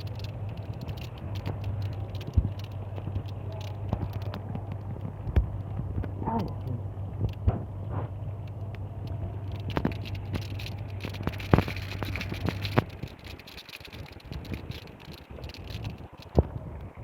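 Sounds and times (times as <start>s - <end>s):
rain falling: 0.0s - 17.0s
steady low hum: 0.0s - 17.0s.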